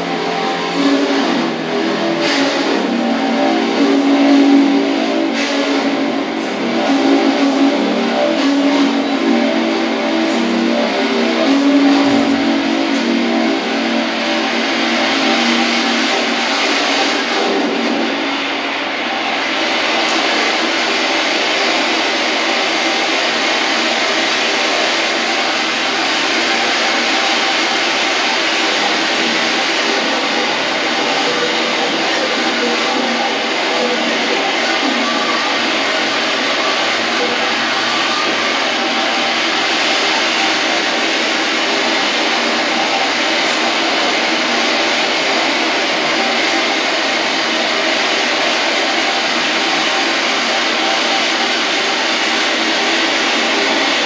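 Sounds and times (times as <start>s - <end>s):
loud rushing noise: 0.0s - 54.0s.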